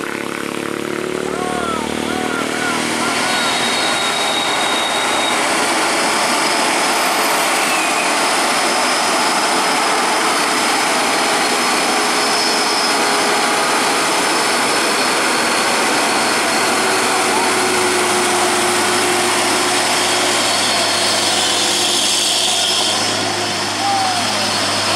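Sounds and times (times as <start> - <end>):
diesel truck engine labouring: 0.0 - 24.9.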